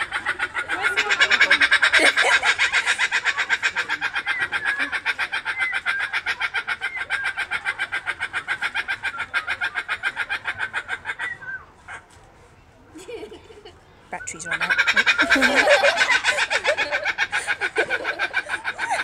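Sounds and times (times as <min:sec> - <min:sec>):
kookaburra calling: 0:00.0 - 0:12.0, 0:14.2 - 0:19.0.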